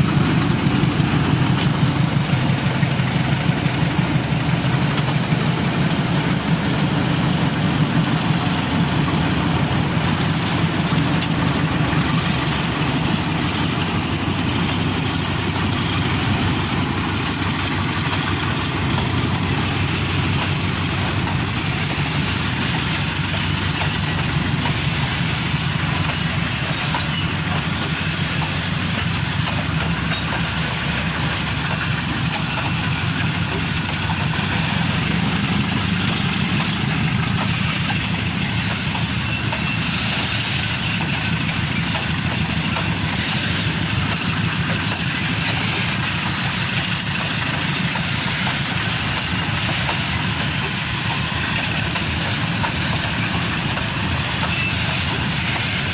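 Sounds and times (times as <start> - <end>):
diesel locomotive engine drone: 0.0 - 55.9.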